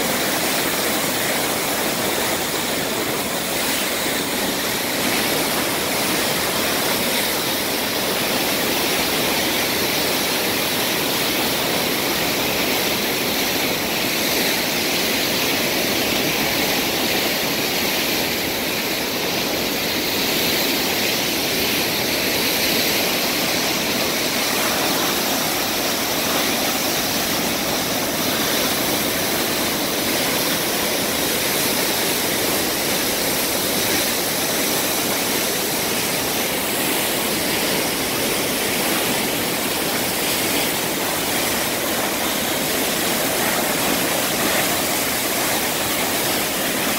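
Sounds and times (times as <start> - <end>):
whitewater rushing: 0.0 - 46.9.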